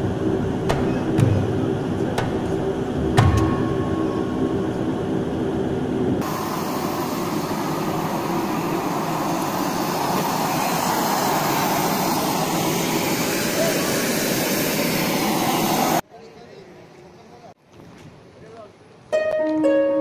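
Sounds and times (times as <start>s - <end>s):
aircraft engines rushing: 0.0s - 16.0s
airliner cabin drone: 0.0s - 16.0s.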